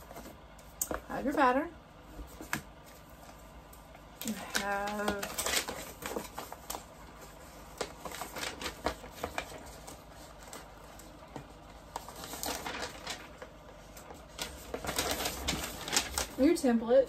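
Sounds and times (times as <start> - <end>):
paper and packaging rustling: 2.1 - 17.0.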